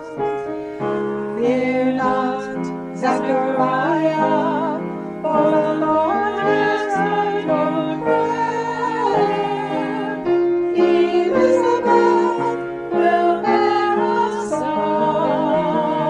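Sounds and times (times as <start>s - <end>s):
piano chords: 0.0s - 16.0s
person singing with vibrato: 1.3s - 16.0s.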